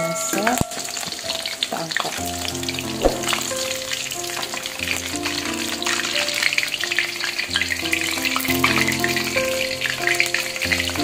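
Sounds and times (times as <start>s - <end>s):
background music sustained notes: 0.0s - 11.0s
chicken sizzling in hot oil: 0.0s - 11.0s.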